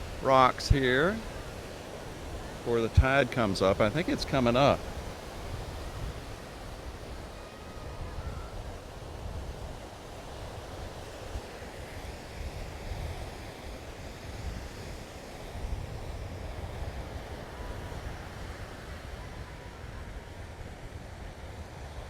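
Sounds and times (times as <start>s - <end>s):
ocean surf washing on beach: 0.0s - 22.0s
wind buffeting microphone: 0.0s - 22.0s.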